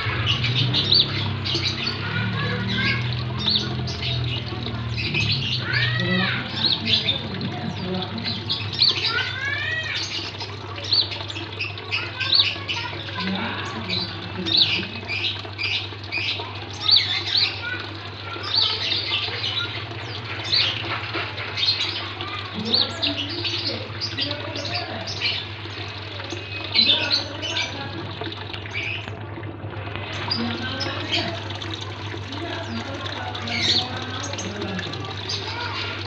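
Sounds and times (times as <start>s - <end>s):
small birds chirping and whistling: 0.0s - 27.9s, 28.6s - 29.2s, 32.4s - 36.0s.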